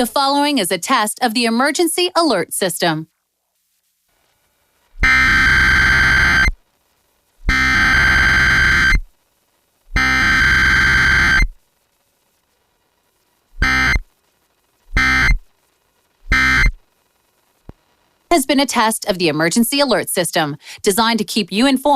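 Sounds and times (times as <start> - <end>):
harsh buzzing data bursts: 4.1 - 21.9.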